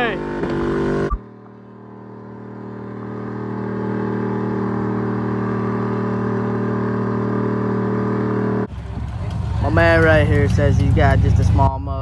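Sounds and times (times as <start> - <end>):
car engine at high revs: 0.0 - 11.8.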